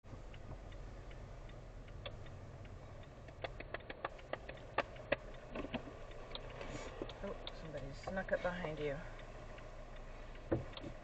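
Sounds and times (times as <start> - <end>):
car engine hum: 0.0 - 11.0
sharp irregular clicks: 0.2 - 11.0.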